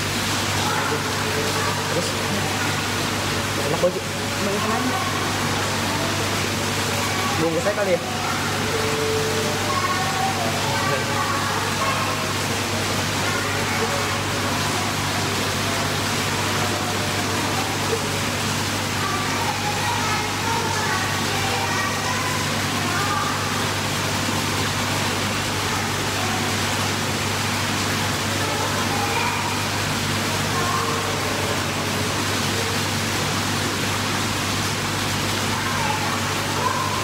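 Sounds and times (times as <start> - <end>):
rushing pool water: 0.0 - 37.0.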